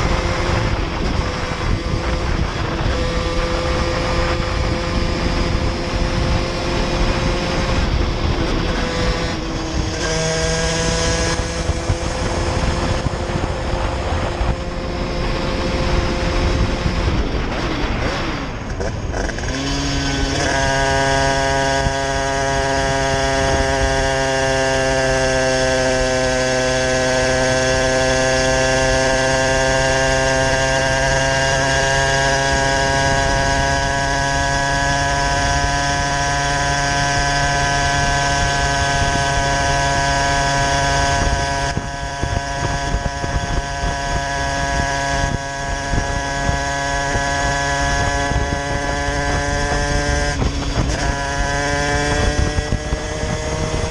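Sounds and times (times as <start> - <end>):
two-stroke moped engine buzzing: 0.0 - 53.9
wind rumbling on microphone: 0.0 - 53.9.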